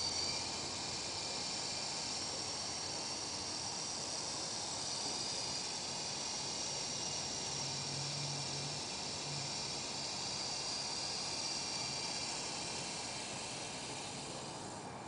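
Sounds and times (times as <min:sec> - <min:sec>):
high motor whine: 0:00.0 - 0:15.0
rc helicopter rotors whirring: 0:00.0 - 0:15.0.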